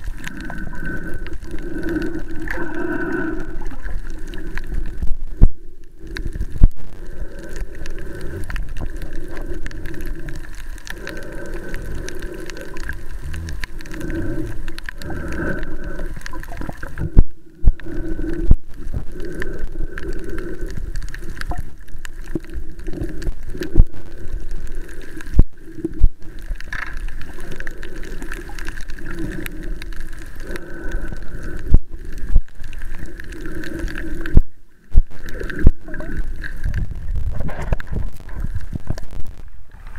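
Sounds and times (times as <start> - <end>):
underwater water wash: 0.0 - 39.9.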